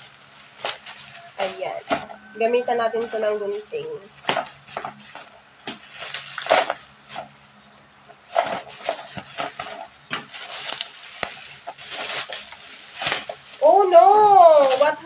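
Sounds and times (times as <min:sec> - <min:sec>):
plastic crinkling and rustling: 0:00.0 - 0:15.0.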